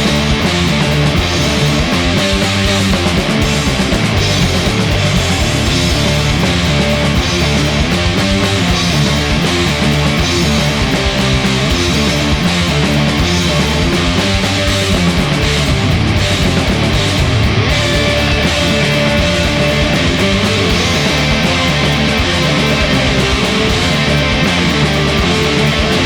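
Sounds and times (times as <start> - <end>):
instrumental rock band: 0.0 - 26.0.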